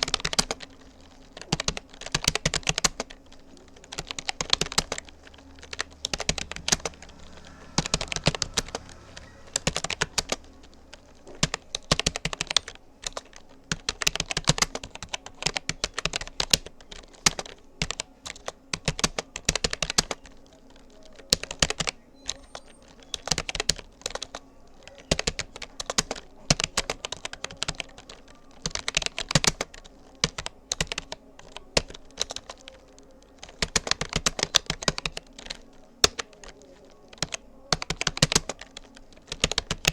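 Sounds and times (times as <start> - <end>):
faint low hum: 0.0 - 39.9
keyboard typing clicks: 0.0 - 39.9.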